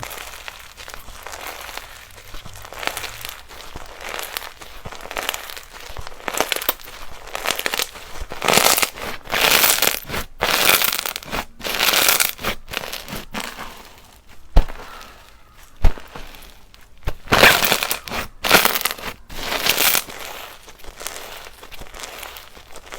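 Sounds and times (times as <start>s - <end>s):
slime squeezed by hand: 0.0s - 22.9s.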